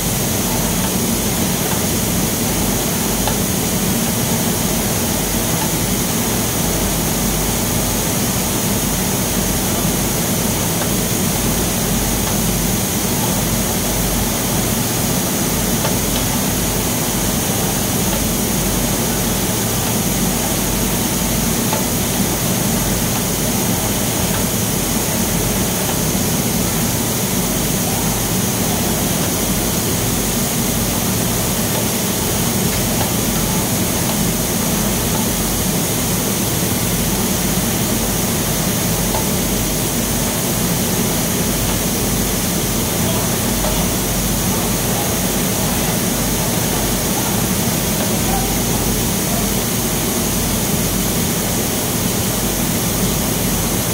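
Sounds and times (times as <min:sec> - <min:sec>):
industrial machinery drone: 0:00.0 - 0:53.9.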